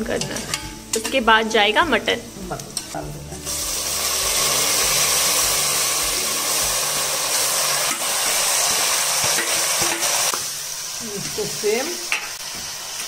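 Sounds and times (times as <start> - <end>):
meat sizzling in hot oil: 0.4 - 13.0.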